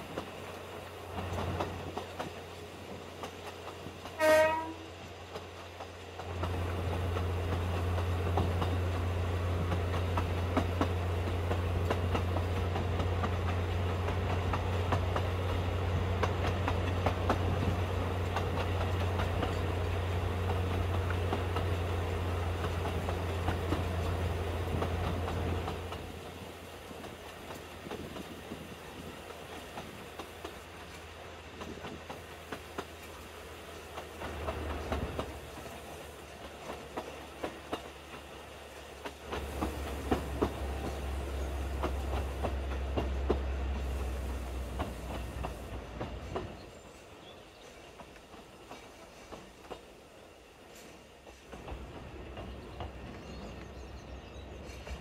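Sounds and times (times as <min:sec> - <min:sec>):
train wheels clicking on rail joints: 0:00.0 - 0:55.0.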